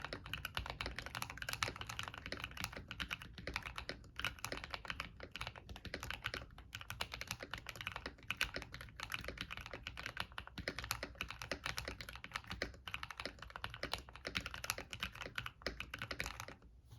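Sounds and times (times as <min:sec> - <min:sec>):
mechanical keyboard typing: 0:00.0 - 0:16.6.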